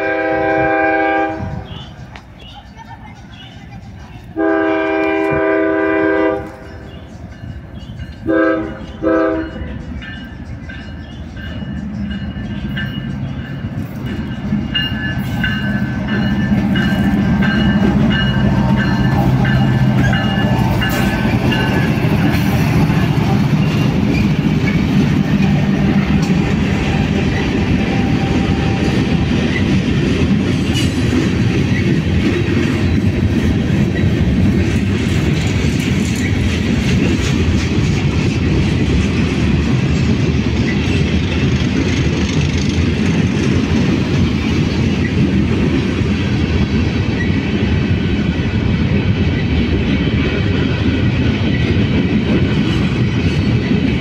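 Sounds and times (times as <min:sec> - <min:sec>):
freight train rumbling: 0:00.0 - 0:54.0
steel wheels clattering on rails: 0:00.0 - 0:54.0.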